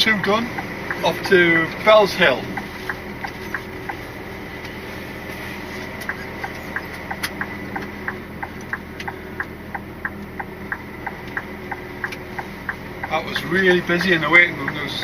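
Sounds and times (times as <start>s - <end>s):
diesel engine running: 0.0s - 15.0s
turn signal ticking: 0.0s - 15.0s.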